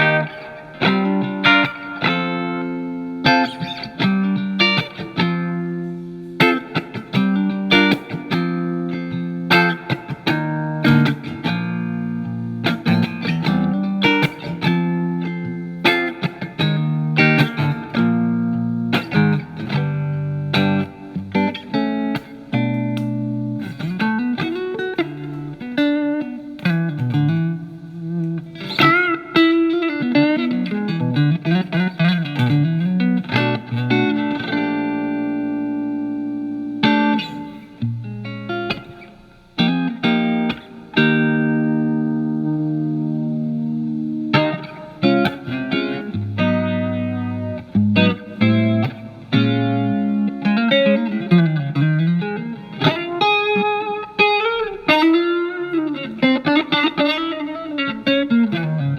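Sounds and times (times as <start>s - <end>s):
clean electric guitar with reverb: 0.0s - 58.9s.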